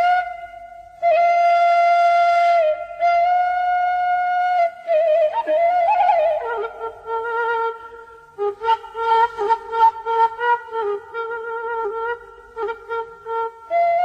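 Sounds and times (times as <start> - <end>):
flute-like solo melody: 0.0 - 14.0.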